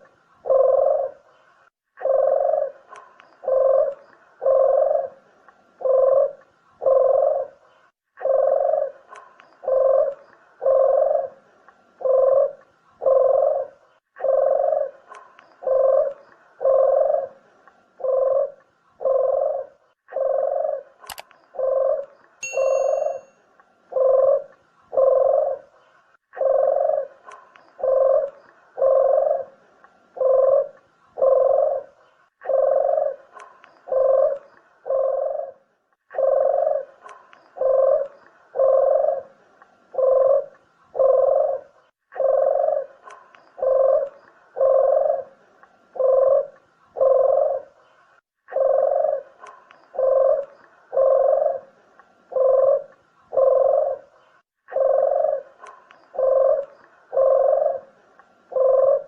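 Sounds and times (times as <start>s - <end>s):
dove cooing: 0.0s - 1.4s, 2.0s - 23.3s, 23.9s - 59.0s.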